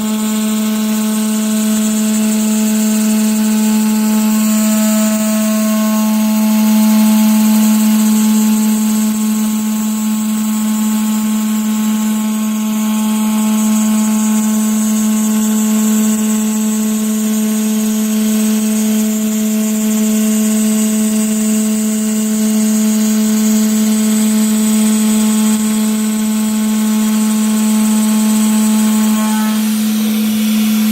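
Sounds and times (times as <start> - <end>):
router machining metal whine: 0.0 - 30.9.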